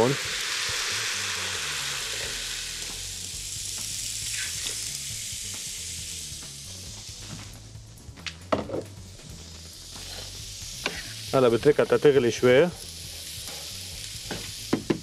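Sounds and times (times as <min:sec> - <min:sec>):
broth hissing and sizzling in pot: 0:00.0 - 0:15.0.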